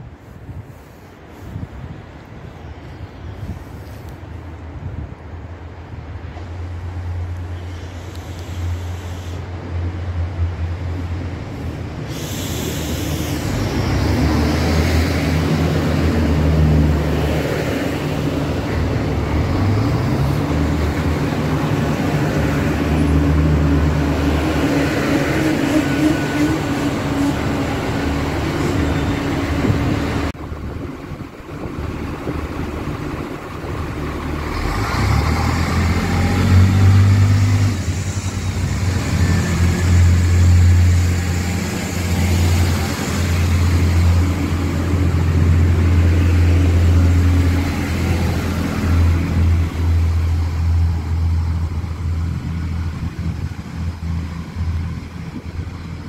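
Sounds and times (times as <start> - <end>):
diesel railcar engine hum: 0.0 - 56.0
train engines rising in pitch: 0.0 - 56.0.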